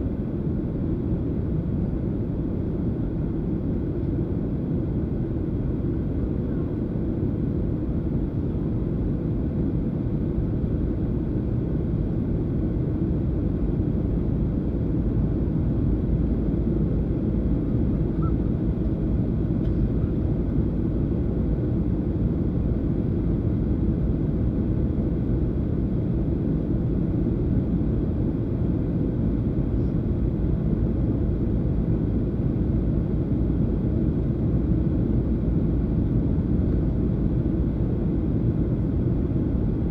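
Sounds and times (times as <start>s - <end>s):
airplane cabin rumble: 5.3s - 39.9s.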